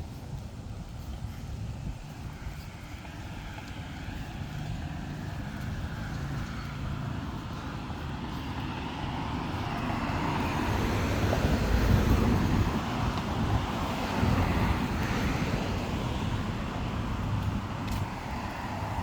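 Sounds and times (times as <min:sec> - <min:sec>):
vehicle approaching: 0:00.0 - 0:19.0.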